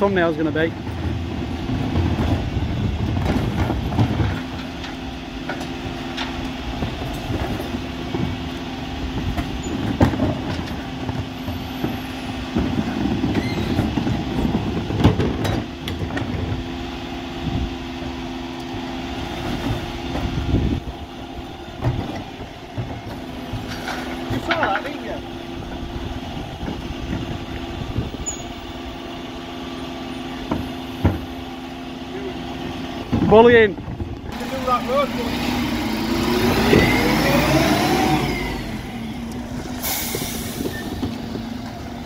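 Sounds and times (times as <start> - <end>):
refuse truck humming: 0.0 - 42.0
wheelie bins rolling on road: 0.0 - 42.0.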